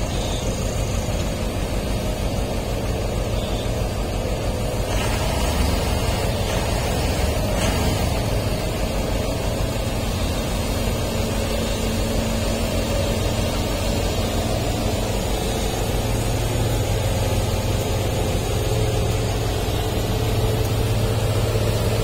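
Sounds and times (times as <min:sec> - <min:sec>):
heavy diesel engines droning: 0:00.0 - 0:22.0.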